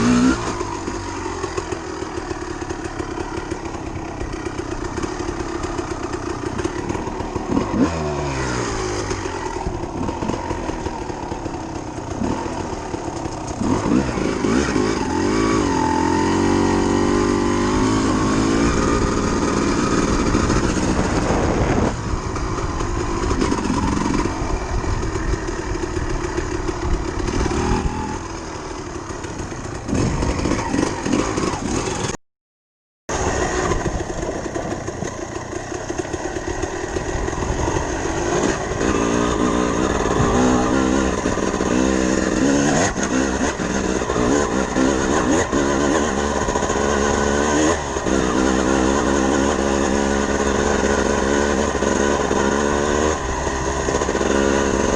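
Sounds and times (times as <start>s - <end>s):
dirt bike engine revving: 0.0s - 32.2s, 33.1s - 54.9s.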